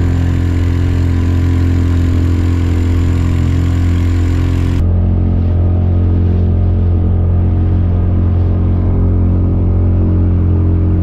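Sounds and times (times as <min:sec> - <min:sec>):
small boat motor running: 0:00.0 - 0:11.0
water rushing along hull: 0:00.0 - 0:11.0.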